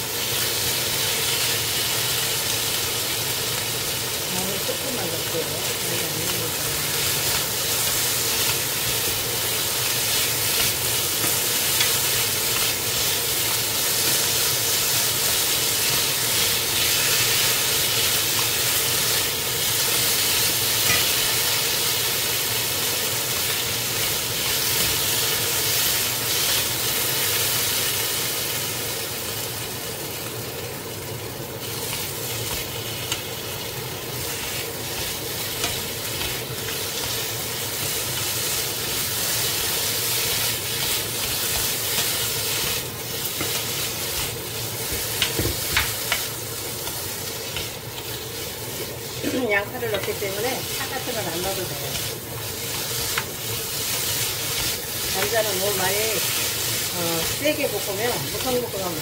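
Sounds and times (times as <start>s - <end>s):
potatoes sizzling in oil: 0.0s - 59.0s.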